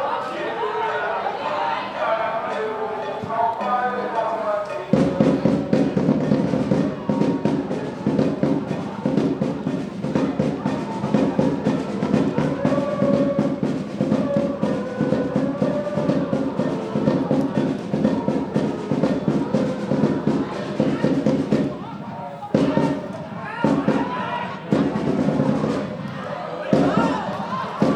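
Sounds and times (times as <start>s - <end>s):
fast steady drumming: 4.7s - 27.9s.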